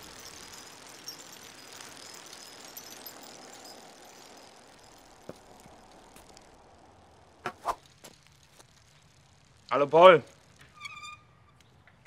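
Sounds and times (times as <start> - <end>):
bicycle rolling hiss: 0.0 - 12.0.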